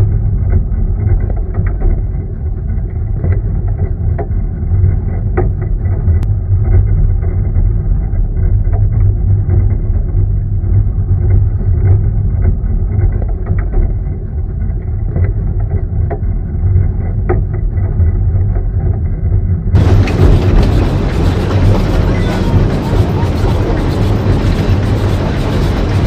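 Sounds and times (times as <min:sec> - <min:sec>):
muffled vehicle rumble: 0:00.0 - 0:26.0.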